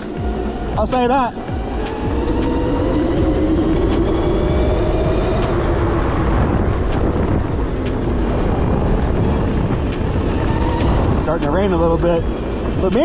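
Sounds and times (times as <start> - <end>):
electric motor whining: 0.0 - 12.9
sharp ticks: 0.0 - 13.0
wind rumble on microphone: 0.0 - 13.0.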